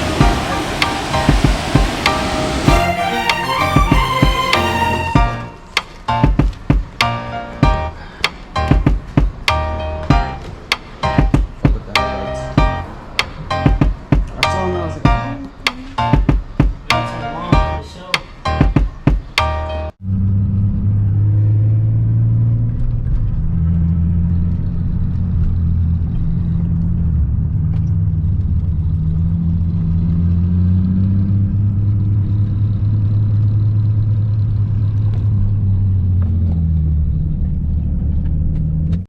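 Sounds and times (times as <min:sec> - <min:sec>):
car engine rumble: 0:00.0 - 0:17.8, 0:18.6 - 0:39.0
road noise: 0:00.0 - 0:39.0.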